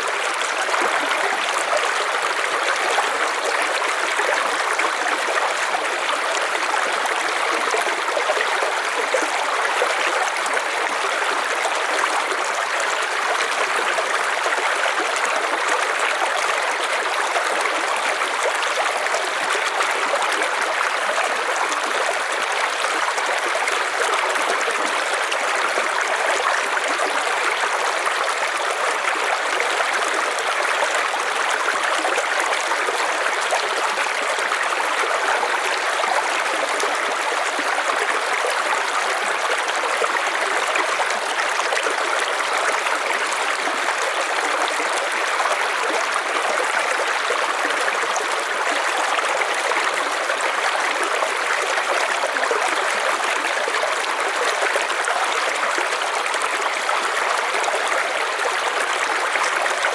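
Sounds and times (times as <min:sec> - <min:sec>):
river water flowing over stones: 0:00.0 - 0:59.9.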